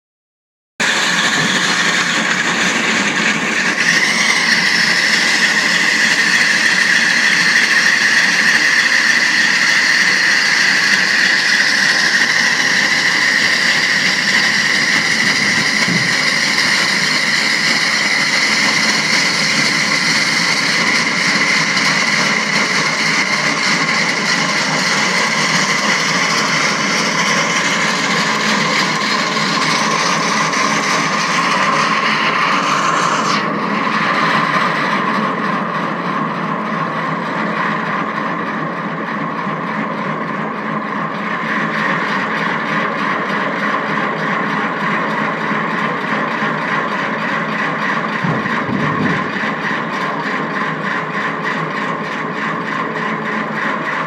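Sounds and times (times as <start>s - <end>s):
heavy machine running with whine: 0.8s - 54.0s.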